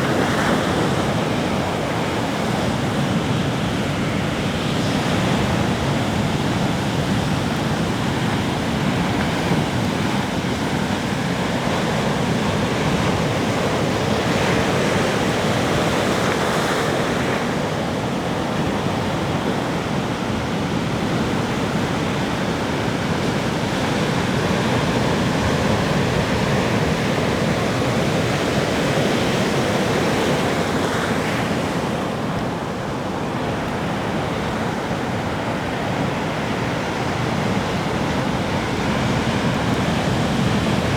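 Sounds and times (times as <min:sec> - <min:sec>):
ocean surf on beach: 0:00.0 - 0:40.9.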